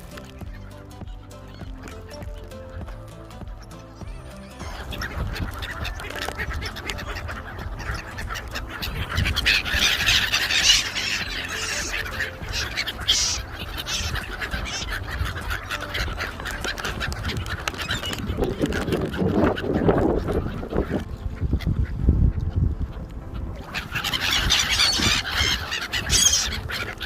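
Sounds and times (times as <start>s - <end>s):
gulls and ducks squawking: 0.0s - 27.0s.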